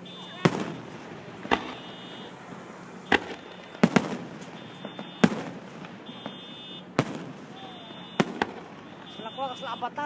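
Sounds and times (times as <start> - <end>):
faint fireworks pops: 0.0 - 9.8
fireworks bangs: 0.0 - 10.0.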